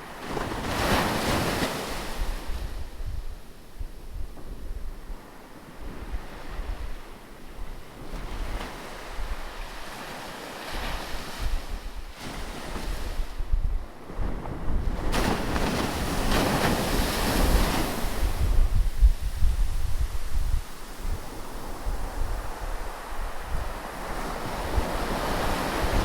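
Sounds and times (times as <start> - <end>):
ocean waves breaking: 0.0 - 2.7, 5.2 - 26.0
wind buffeting microphone: 0.0 - 26.0.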